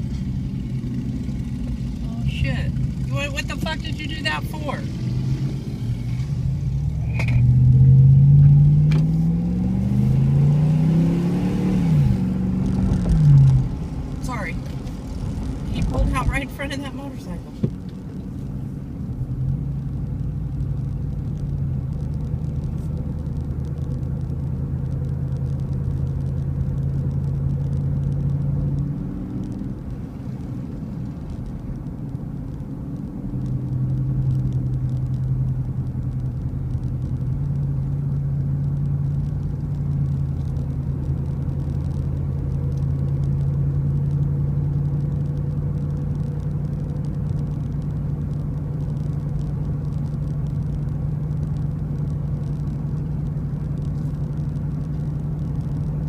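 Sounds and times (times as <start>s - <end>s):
road noise: 0.0s - 56.0s
vehicle engine drone: 0.0s - 56.0s.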